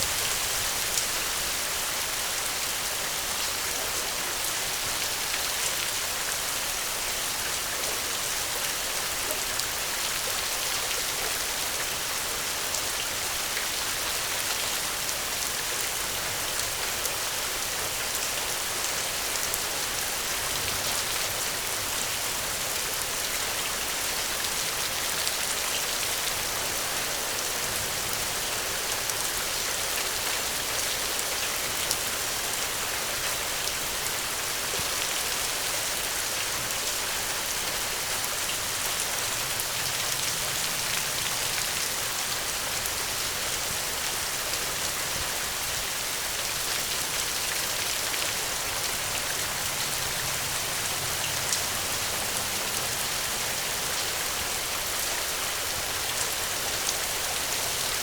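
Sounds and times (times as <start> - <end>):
steady rain on a surface: 0.0 - 58.0.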